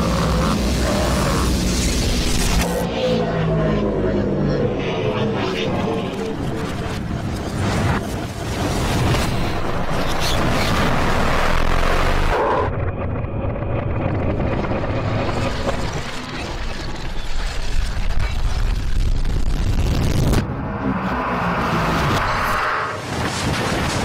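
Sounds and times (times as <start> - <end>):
reversed explosions and machinery rumble: 4.0 - 21.0, 21.7 - 24.0.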